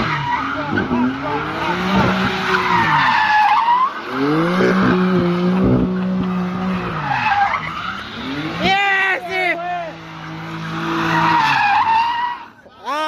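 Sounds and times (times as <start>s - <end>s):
tyres squealing: 0.0s - 5.8s, 6.4s - 13.0s
car engine revving: 0.0s - 12.6s.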